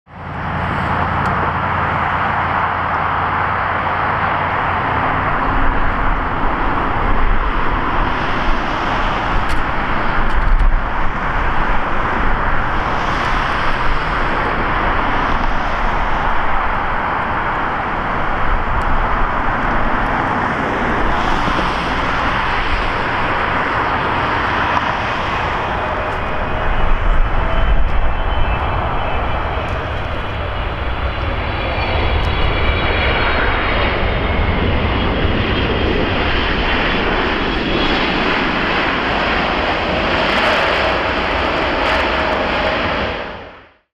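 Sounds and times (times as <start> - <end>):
jet engine roar: 0.1 - 43.9.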